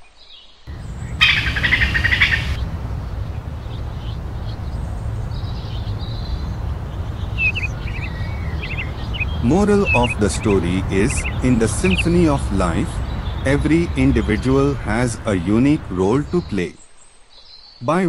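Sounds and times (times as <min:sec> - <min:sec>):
low rumble: 0:00.7 - 0:16.6
birds chirping: 0:00.7 - 0:17.0.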